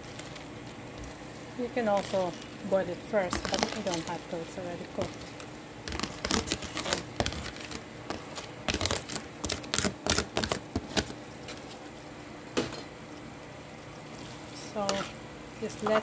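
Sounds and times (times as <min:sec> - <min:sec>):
dry noodles crackling in pan: 0:00.0 - 0:12.0, 0:13.1 - 0:16.0.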